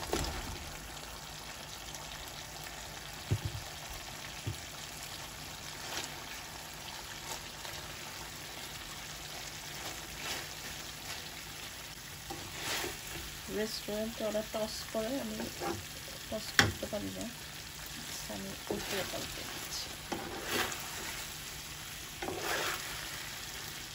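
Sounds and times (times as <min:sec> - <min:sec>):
sauce bubbling in a frying pan: 0:00.0 - 0:23.9.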